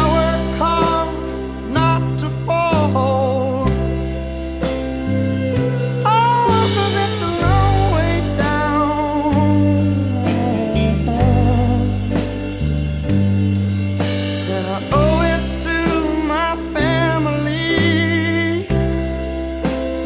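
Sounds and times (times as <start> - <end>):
song with bass and drums: 0.0 - 20.0
wavering melodic lead line: 0.0 - 20.0.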